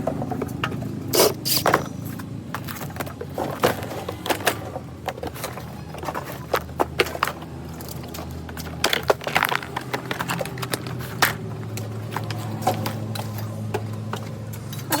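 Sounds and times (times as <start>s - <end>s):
fan parts clicking and knocking: 0.0s - 15.0s.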